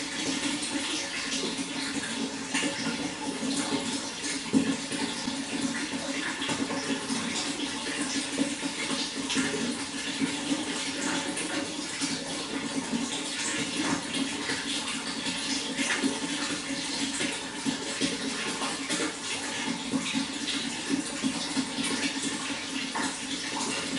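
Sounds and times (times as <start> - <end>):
running water splashing: 0.0 - 23.9.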